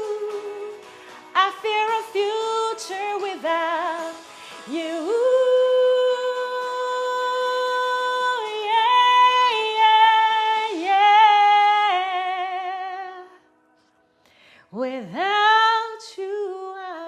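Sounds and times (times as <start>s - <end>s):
woman singing unaccompanied: 0.0s - 13.4s, 14.7s - 17.0s.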